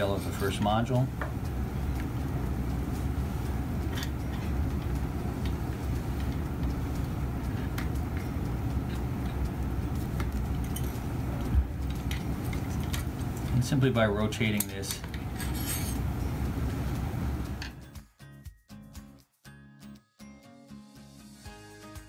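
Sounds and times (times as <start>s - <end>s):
low room noise rumble: 0.0s - 17.7s.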